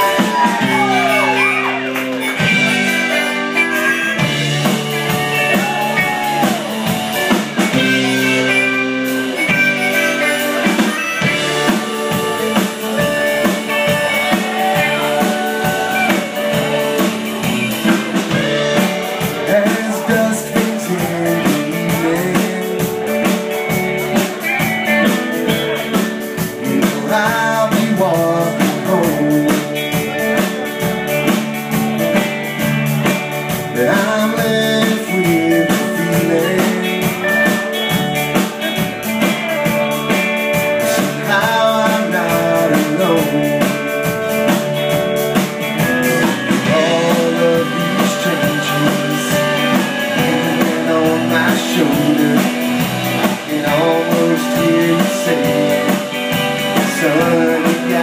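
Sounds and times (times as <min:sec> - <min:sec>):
live band with guitars and drums: 0:00.0 - 0:58.0.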